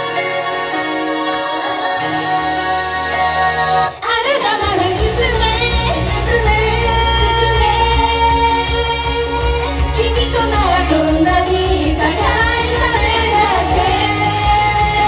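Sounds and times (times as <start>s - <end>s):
pop backing music: 0.0s - 15.0s
woman singing into microphone: 0.0s - 15.0s.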